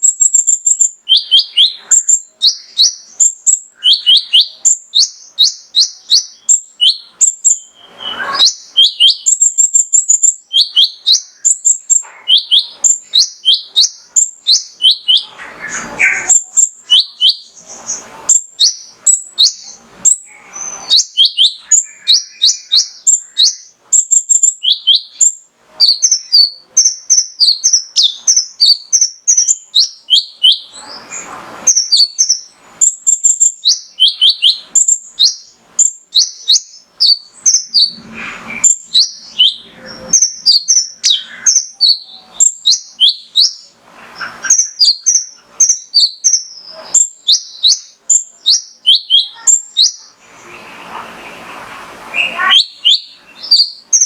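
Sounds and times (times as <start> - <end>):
bird chirping: 0.0 - 54.0.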